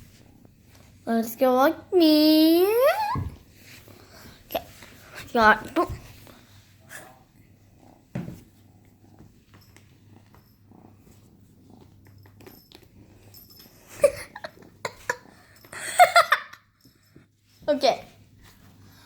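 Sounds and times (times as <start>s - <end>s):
kitten purring: 0.0s - 15.9s.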